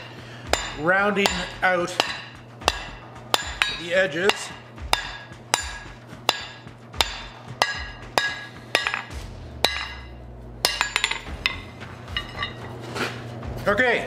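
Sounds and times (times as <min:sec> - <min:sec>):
hammer ringing on anvil: 0:00.0 - 0:12.6.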